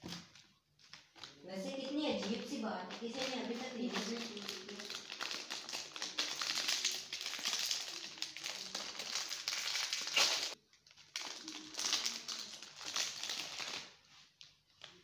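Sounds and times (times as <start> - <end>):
plastic snack packet crinkling: 0.0 - 15.0.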